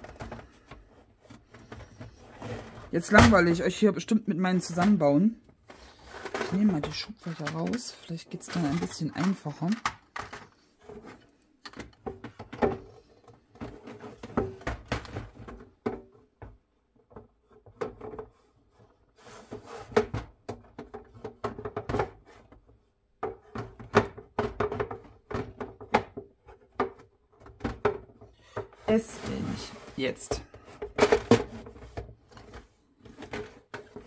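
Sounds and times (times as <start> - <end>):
plastic drawers knocking and scraping: 0.0 - 34.0.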